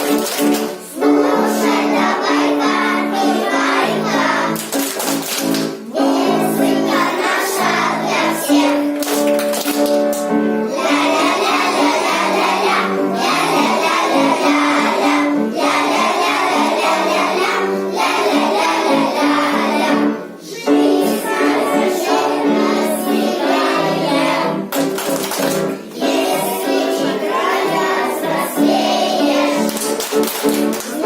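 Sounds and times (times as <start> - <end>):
children singing: 0.0 - 9.9, 10.6 - 31.0
musical accompaniment: 0.0 - 31.0.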